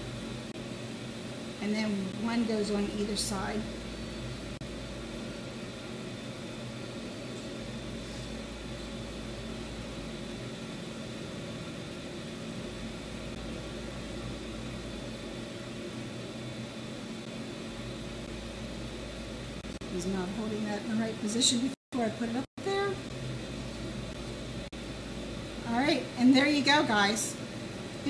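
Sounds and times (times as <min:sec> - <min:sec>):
low hum and hiss: 0:00.0 - 0:28.0.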